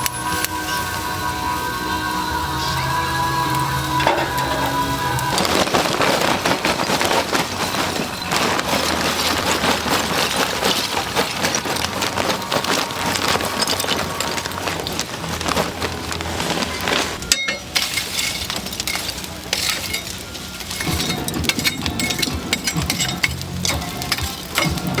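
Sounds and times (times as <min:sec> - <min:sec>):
chicken sizzling on grill: 0:00.0 - 0:06.4, 0:10.5 - 0:25.0.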